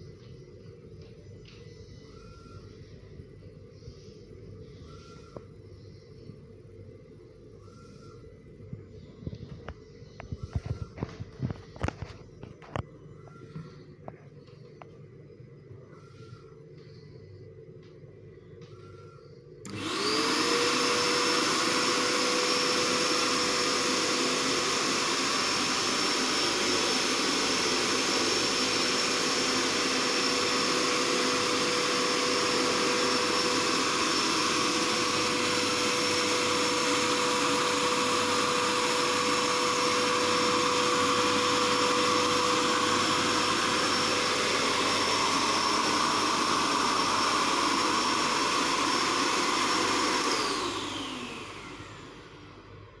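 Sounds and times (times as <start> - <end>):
hand dryer motor whine: 1.0 - 6.4, 7.4 - 14.9, 18.6 - 53.0.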